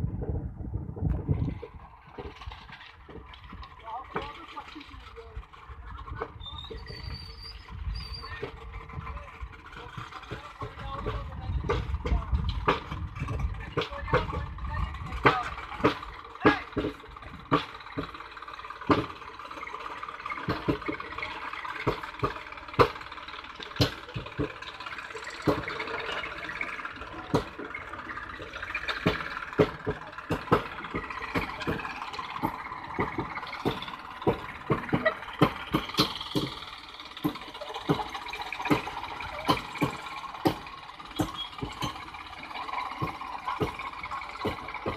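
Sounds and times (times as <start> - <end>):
tractor diesel engine running: 0.0 - 44.9
sharp metallic clanks and knocks: 1.3 - 44.9.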